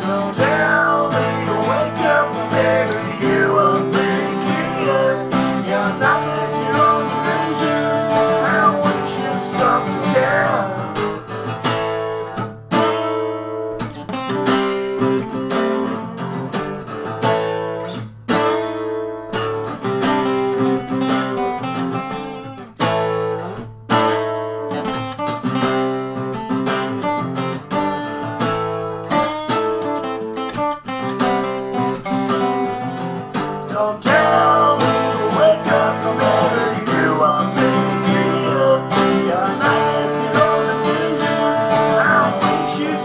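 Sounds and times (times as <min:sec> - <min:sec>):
acoustic guitars strumming: 0:00.0 - 0:43.0.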